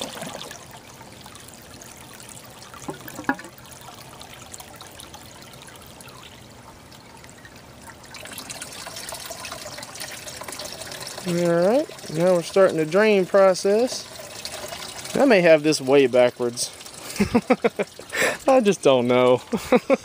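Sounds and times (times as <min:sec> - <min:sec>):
water trickling into plastic drum: 0:00.0 - 0:19.9.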